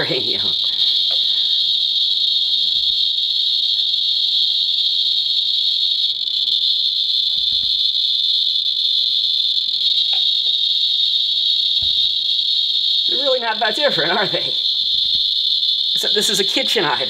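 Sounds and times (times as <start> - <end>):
geiger counter buzzing chirp: 0.0 - 17.0.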